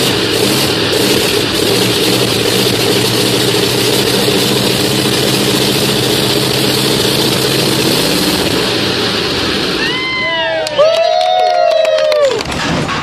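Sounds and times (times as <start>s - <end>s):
radial aircraft engine running: 0.0s - 10.9s.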